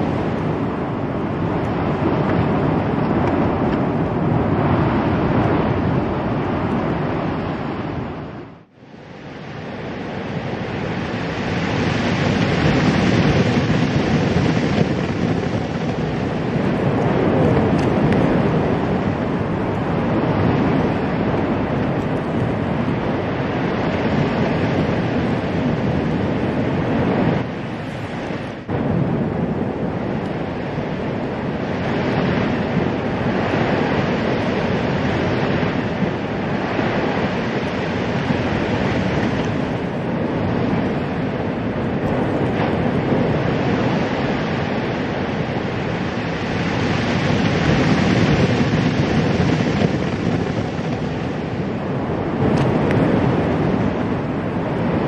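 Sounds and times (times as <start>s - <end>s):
loud steady rushing noise: 0.0s - 55.0s.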